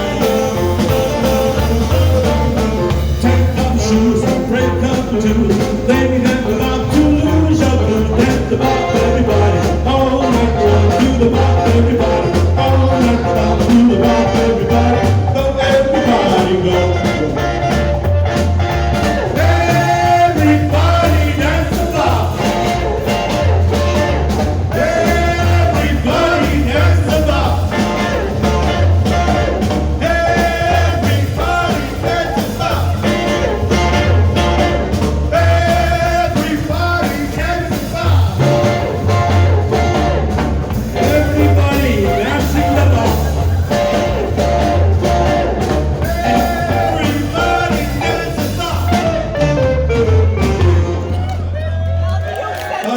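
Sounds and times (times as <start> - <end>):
pulsing bass beat: 0.0 - 51.7
live band playing rock and roll: 0.0 - 52.3.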